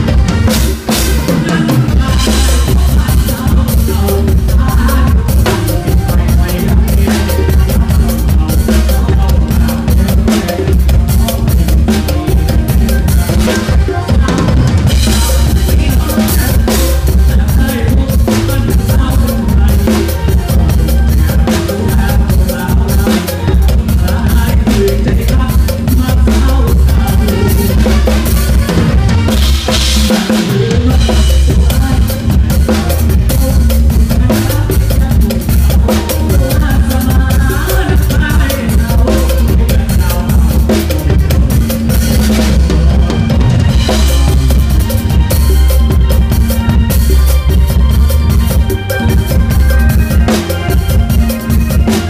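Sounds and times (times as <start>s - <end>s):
bass line: 0.0s - 52.0s
fast drum kit beat: 0.0s - 52.0s.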